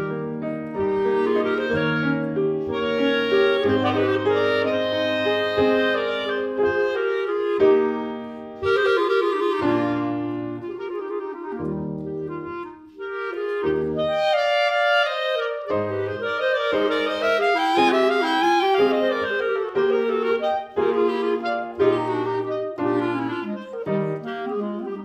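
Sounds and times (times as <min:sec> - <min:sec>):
clarinets playing melody: 0:00.0 - 0:25.0
piano chords: 0:00.0 - 0:25.0.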